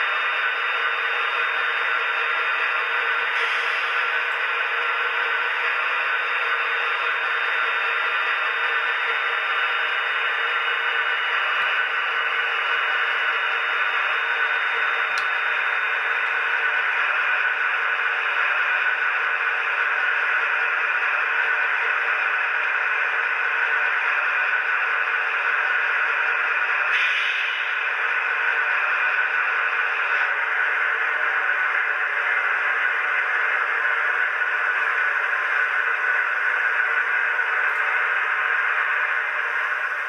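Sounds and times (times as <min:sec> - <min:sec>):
high-pitched whine: 0:00.0 - 0:40.0
hissy model engine sound: 0:00.0 - 0:40.0.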